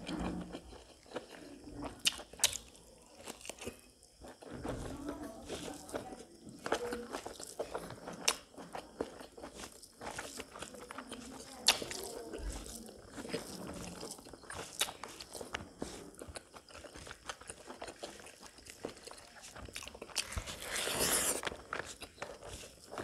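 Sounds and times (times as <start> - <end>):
close chewing: 0.0 - 23.0.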